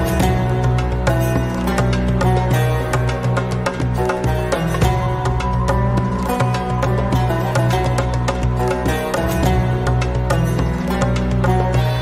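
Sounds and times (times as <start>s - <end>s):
plucked string notes: 0.0s - 12.0s.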